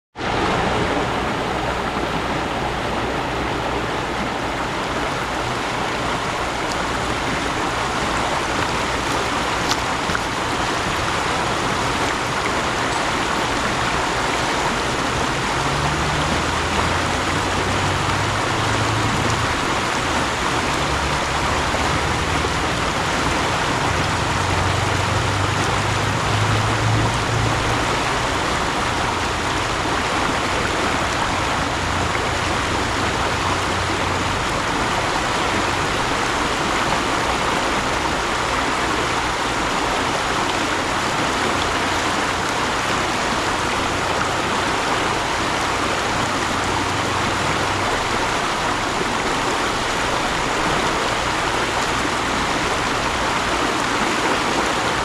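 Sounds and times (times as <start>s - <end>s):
stream water rushing: 0.2s - 55.0s.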